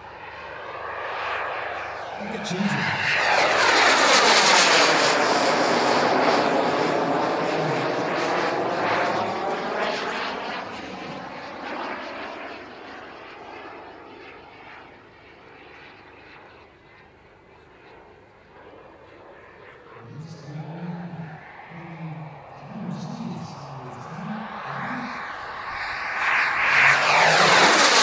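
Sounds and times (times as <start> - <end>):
model jet turbine roar: 0.0 - 28.0.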